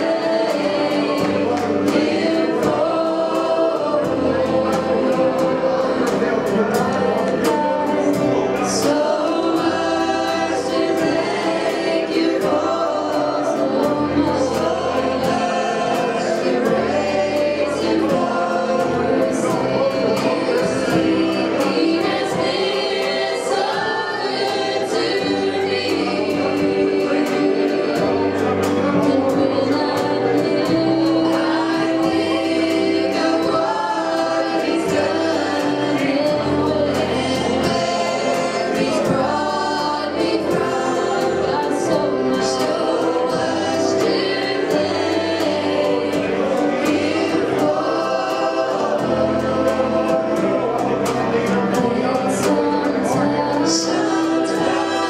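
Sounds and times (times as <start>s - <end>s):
band with drum kit: 0.0s - 55.0s
congregation singing worship song: 0.0s - 55.0s.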